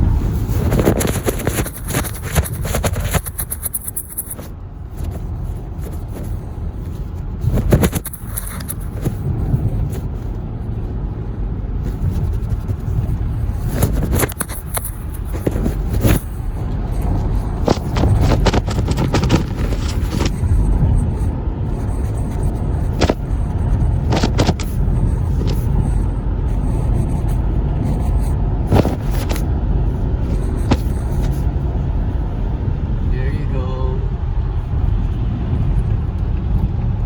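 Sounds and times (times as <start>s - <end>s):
car road noise rumble: 0.0s - 37.0s.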